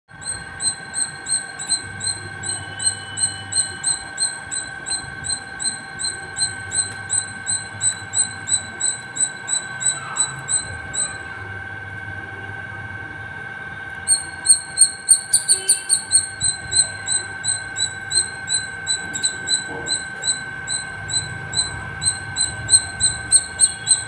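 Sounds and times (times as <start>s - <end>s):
squirrel chirping: 0.1s - 11.3s, 14.1s - 24.0s.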